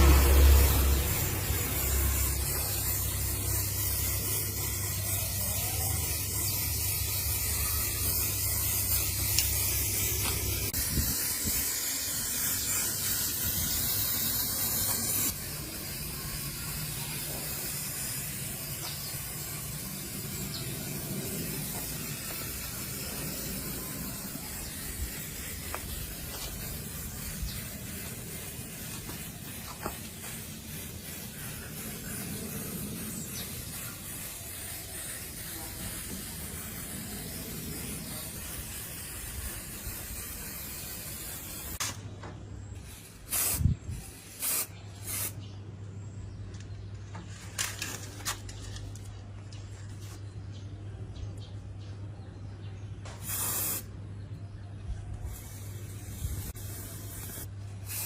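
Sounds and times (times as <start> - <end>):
compressed air spray hissing: 0.0 - 42.0, 42.8 - 45.4, 53.2 - 53.9, 55.2 - 58.0.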